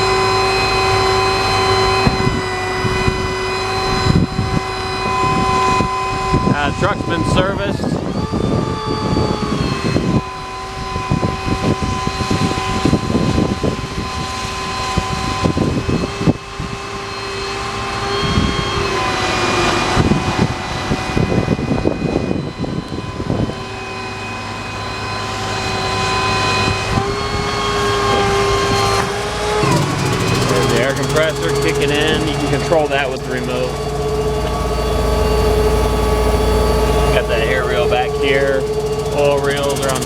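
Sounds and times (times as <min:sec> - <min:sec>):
truck equipment whine and drone: 0:00.0 - 0:40.0.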